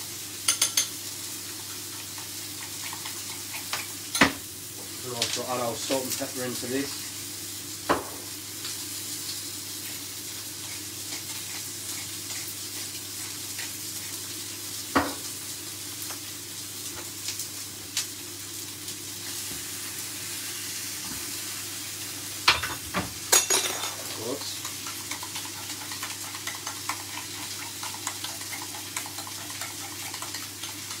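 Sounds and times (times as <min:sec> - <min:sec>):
steak sizzling in a frying pan: 0:00.0 - 0:31.0.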